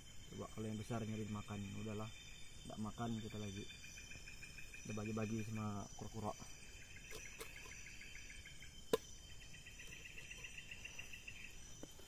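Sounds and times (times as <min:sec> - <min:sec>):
crickets chirping: 0:00.0 - 0:12.0
high-pitched insect drone: 0:00.0 - 0:12.0.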